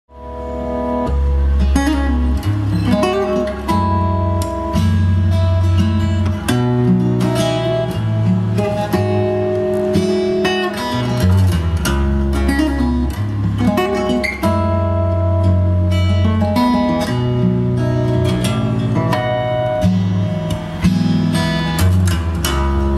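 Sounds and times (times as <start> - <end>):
plucked acoustic guitar: 0.1 - 22.9.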